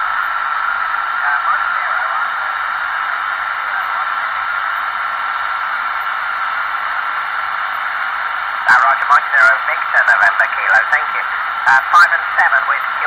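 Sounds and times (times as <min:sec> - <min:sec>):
radio static hiss: 0:00.1 - 0:13.0.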